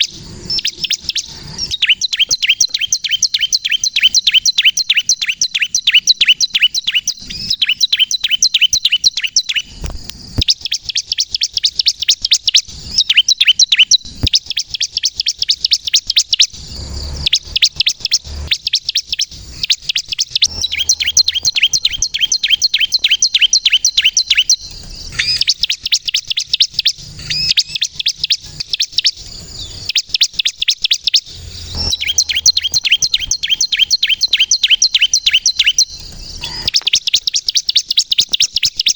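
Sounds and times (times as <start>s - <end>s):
bird singing high chirps: 0.0s - 38.9s.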